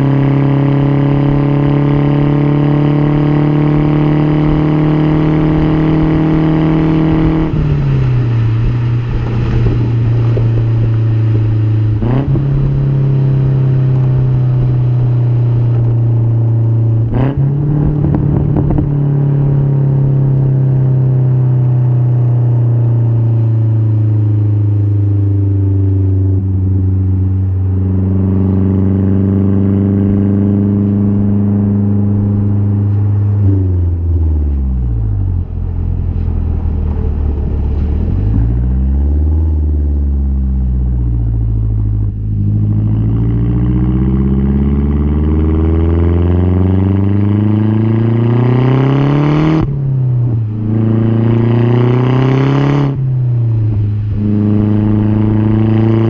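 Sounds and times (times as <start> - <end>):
car engine exhaust note: 0.0 - 56.0.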